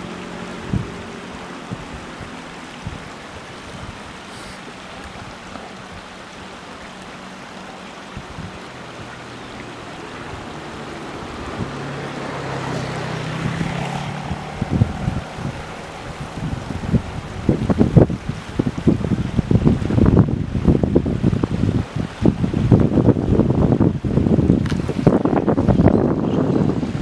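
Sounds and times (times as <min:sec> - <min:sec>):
river water rushing: 0:00.0 - 0:27.0
wind on microphone: 0:00.0 - 0:27.0.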